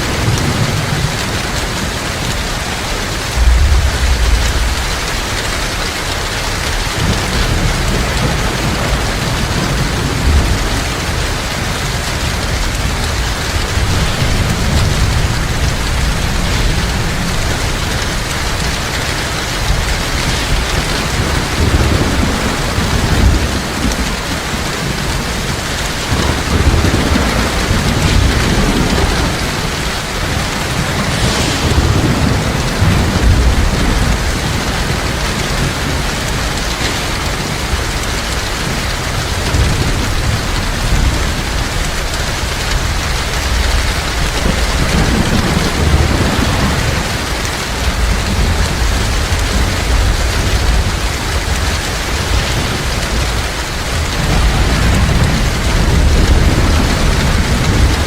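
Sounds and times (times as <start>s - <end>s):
heavy rain falling: 0.0s - 58.0s
low rolling thunder: 0.0s - 58.0s.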